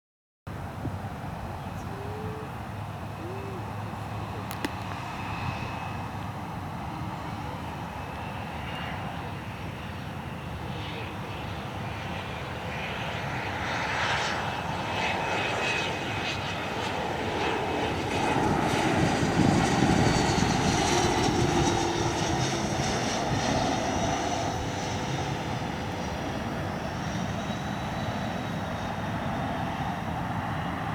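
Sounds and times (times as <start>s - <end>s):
high engine whine: 0.5s - 30.9s
jet engines landing: 0.6s - 30.9s.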